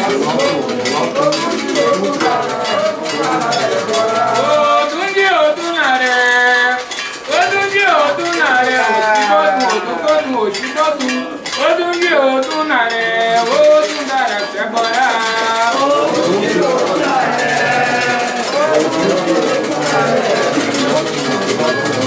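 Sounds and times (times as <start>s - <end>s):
voices singing a chant: 0.0s - 22.0s.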